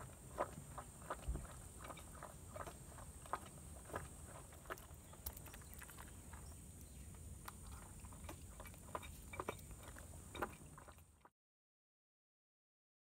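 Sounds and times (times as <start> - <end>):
animal lapping milk: 0.0 - 11.3.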